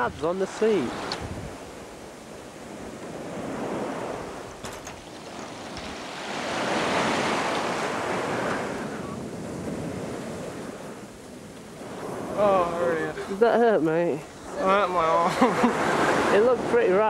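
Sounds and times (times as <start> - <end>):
surf washing onto beach: 0.0 - 17.0
wind on microphone: 0.0 - 17.0.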